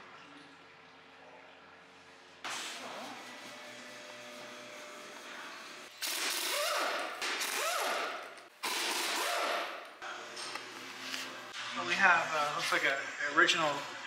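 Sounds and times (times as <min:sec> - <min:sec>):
shop noise: 0:02.4 - 0:14.0.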